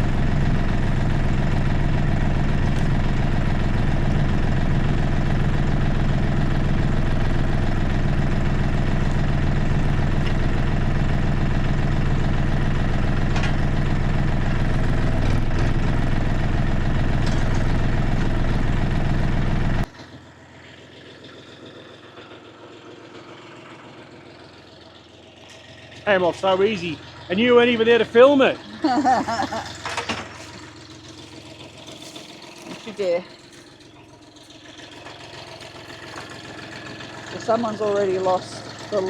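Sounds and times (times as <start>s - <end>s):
diesel tractor engine idling: 0.0s - 39.0s.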